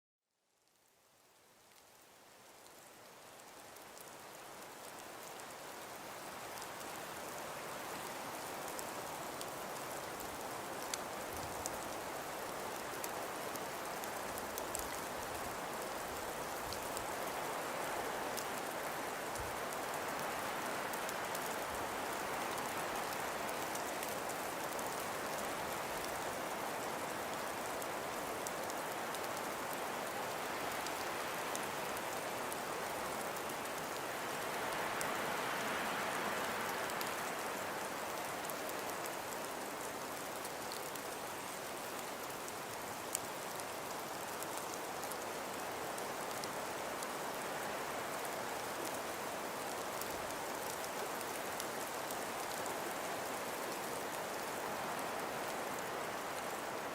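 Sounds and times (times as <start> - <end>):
wind: 0.4 - 56.9
falling precipitation: 0.6 - 56.9
faint scattered ticks: 1.7 - 56.9.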